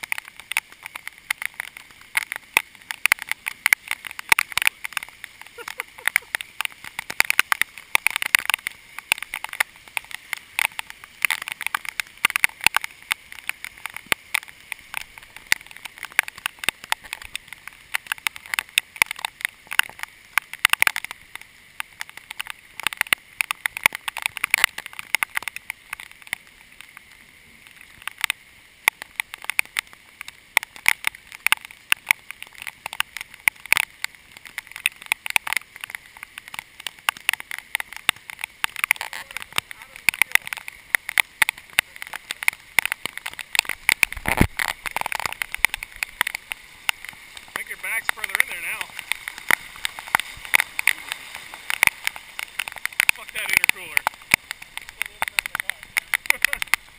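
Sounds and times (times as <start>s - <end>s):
heavy rain hiss: 0.0s - 56.9s
raindrops ticking on camera: 0.0s - 56.9s.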